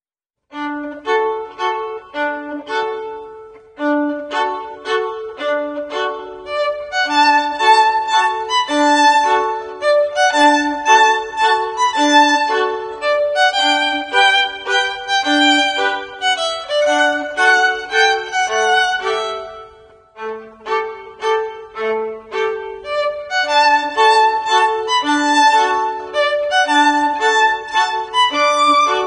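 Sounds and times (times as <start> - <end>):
violin melody: 0.5 - 29.0.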